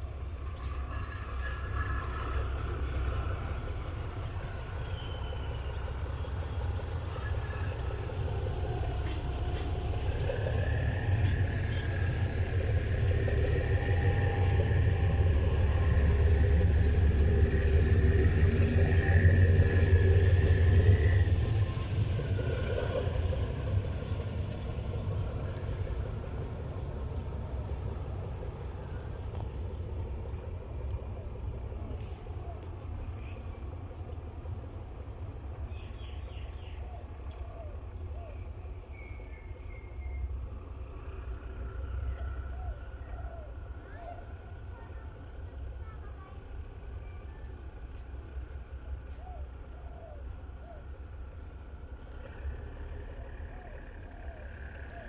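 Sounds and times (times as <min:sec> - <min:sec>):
diesel train engine drone: 0:00.0 - 0:55.0.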